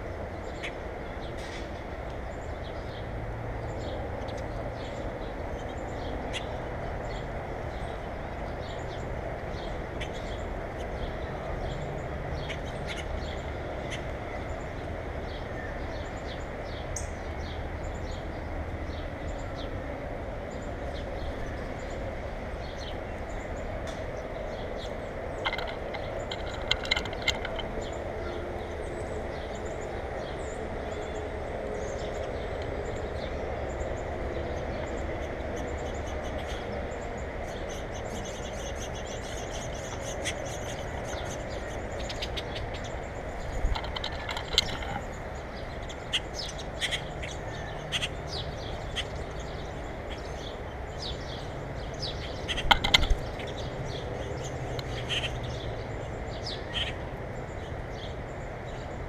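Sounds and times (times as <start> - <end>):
small birds chirping: 0.0 - 59.0
steady background rush: 0.0 - 59.0.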